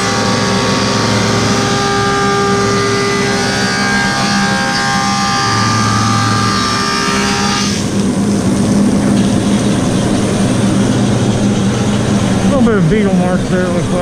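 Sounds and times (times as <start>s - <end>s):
planer cutting wood with whine: 0.0s - 14.0s
planer running with low hum: 0.0s - 14.0s.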